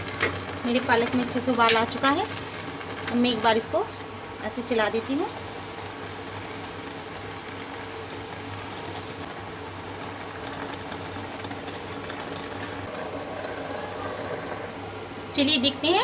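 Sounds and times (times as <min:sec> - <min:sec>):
water boiling with bubbling hiss: 0:00.0 - 0:16.0.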